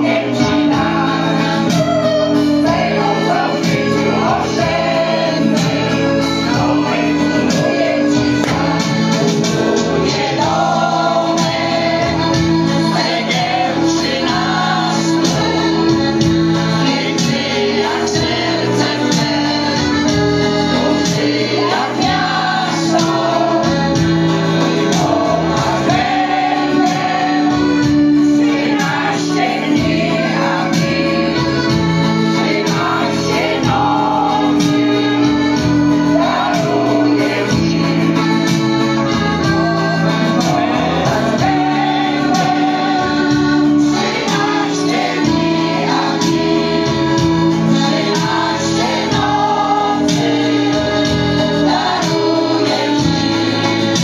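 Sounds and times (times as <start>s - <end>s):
electronic keyboard chords: 0.0s - 54.0s
mixed choir singing: 0.0s - 54.0s.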